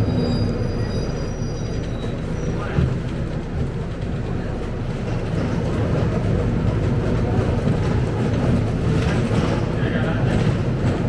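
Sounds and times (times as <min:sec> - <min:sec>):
diesel bus engine rumble: 0:00.0 - 0:11.0.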